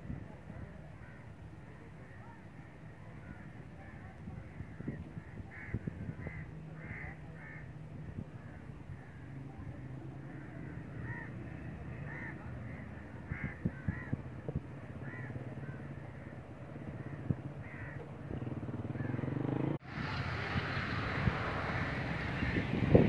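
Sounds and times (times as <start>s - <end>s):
birds calling: 0.0s - 19.8s, 20.4s - 23.0s.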